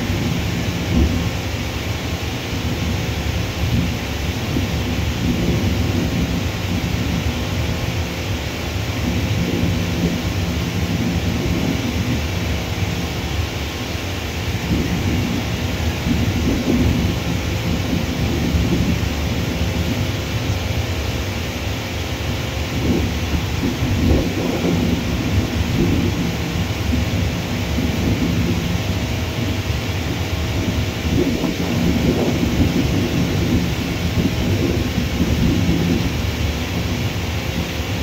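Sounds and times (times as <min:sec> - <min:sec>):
faint steady hum: 0:00.0 - 0:38.0
jet engines rumbling: 0:00.0 - 0:38.0.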